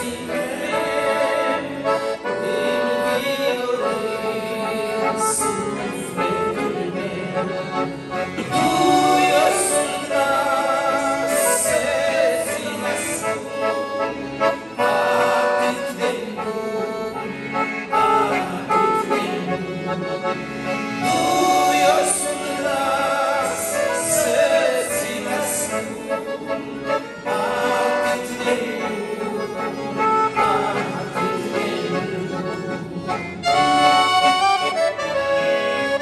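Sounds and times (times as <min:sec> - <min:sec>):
two men singing a hymn: 0:00.0 - 0:34.8
accordions playing: 0:00.0 - 0:36.0.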